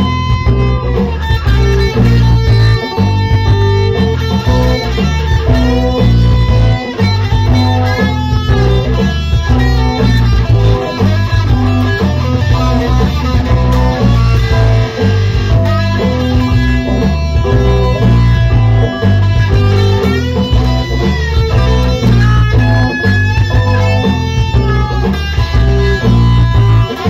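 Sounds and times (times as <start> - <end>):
deep bass notes: 0.0 - 27.0
electric guitar playing: 0.0 - 27.0.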